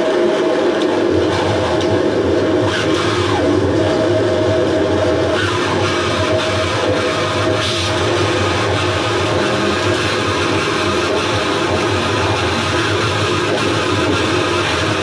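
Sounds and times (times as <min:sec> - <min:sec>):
amplified noise with droning tones: 0:00.0 - 0:15.0.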